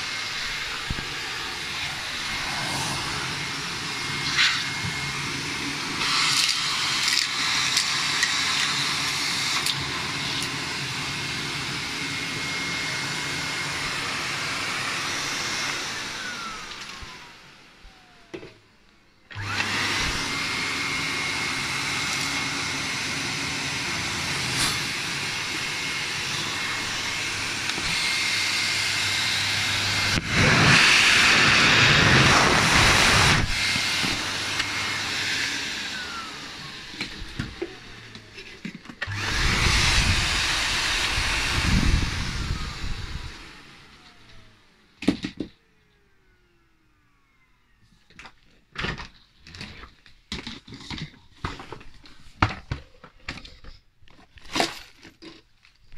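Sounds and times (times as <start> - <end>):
vacuum cleaner whining: 0.0 - 55.9.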